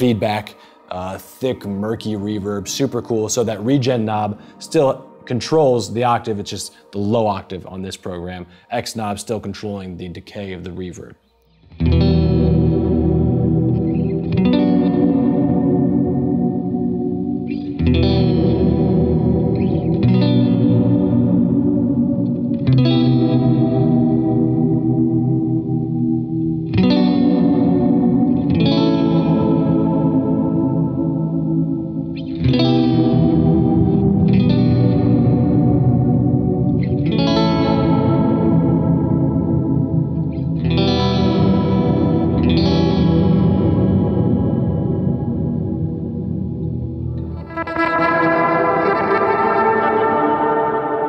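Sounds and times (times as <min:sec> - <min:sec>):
electric guitar chords with reverb: 0:00.0 - 0:08.7, 0:11.4 - 0:51.0.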